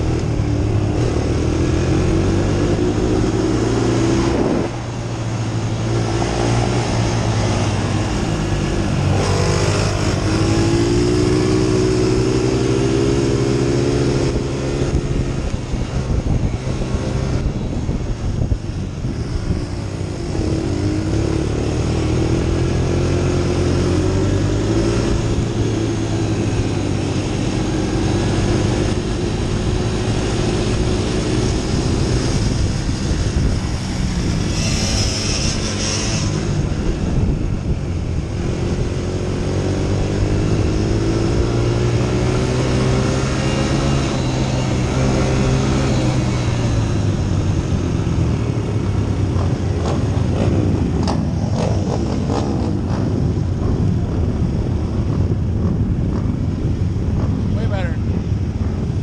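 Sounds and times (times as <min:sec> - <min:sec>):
quad engine running hard: 0:00.0 - 0:59.0.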